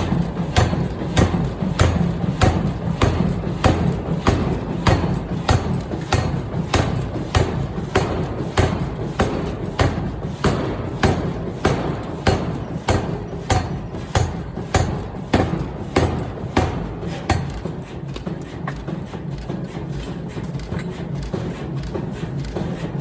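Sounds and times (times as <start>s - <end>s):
power hammer striking metal: 0.0s - 22.9s
machine rumble: 0.0s - 23.0s.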